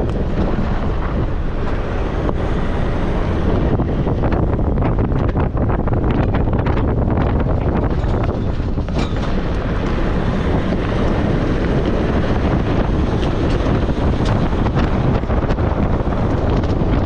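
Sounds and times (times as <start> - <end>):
vehicle engine and tyres: 0.0 - 17.0
wind buffeting microphone: 0.0 - 17.0.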